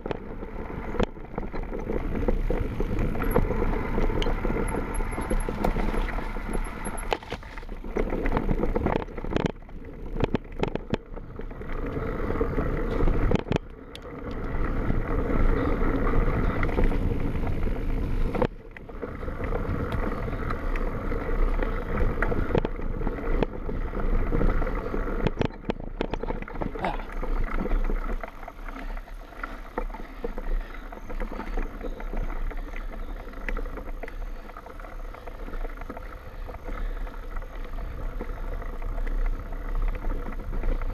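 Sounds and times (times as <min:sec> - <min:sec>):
bike knocks and rattles: 0:00.0 - 0:37.3
bike tyres rolling over mud: 0:00.0 - 0:40.9.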